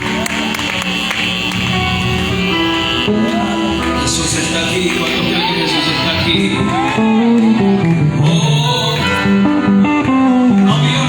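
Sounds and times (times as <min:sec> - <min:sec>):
person singing: 0:00.0 - 0:11.0
worship band with guitar: 0:00.0 - 0:11.0.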